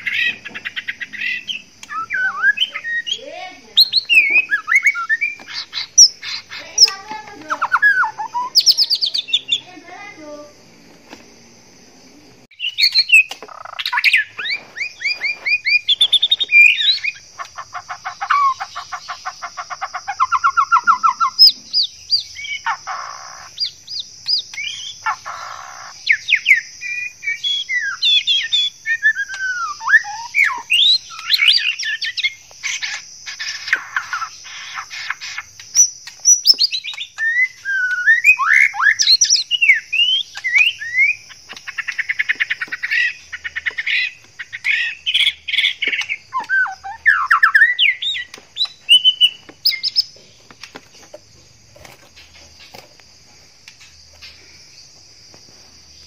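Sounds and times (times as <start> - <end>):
bird singing whistles and trills: 0.0 - 9.7, 12.5 - 50.1.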